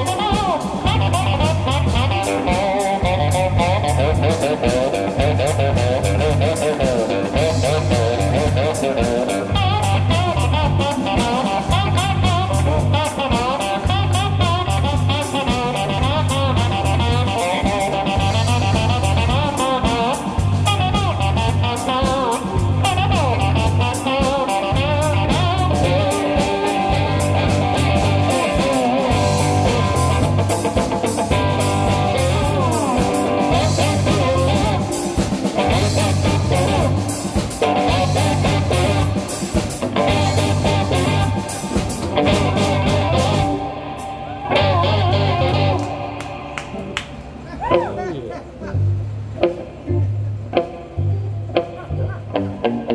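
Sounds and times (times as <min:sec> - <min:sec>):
bass guitar: 0:00.0 - 0:52.9
drum kit beat: 0:00.0 - 0:52.9
slide guitar: 0:00.0 - 0:52.9.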